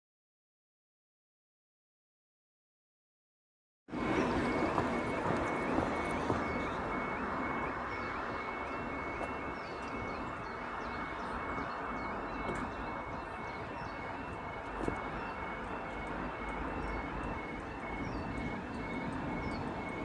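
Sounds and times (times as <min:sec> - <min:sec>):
level crossing warning alarm: 0:03.9 - 0:20.0.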